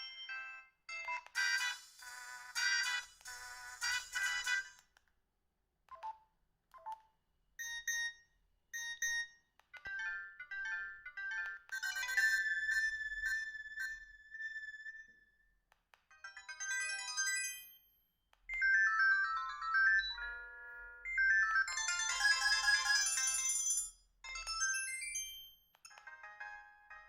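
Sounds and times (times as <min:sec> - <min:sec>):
electronic ringtone tunes: 0:00.0 - 0:04.8, 0:08.8 - 0:15.2, 0:16.1 - 0:27.0.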